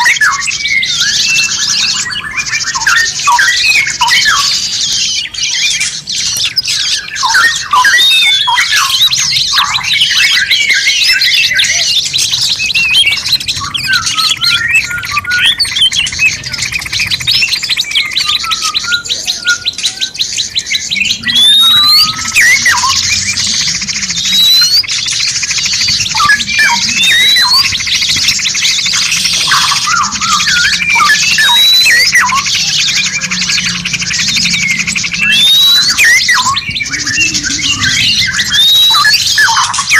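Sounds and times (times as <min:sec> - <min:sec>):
rapid bird trill: 0:00.0 - 0:39.9
rising whistled bird call: 0:00.0 - 0:39.9
songbirds chirping: 0:00.0 - 0:39.9.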